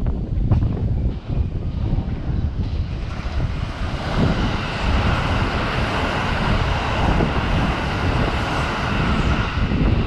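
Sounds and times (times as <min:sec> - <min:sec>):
train rushing past: 0:00.2 - 0:10.0.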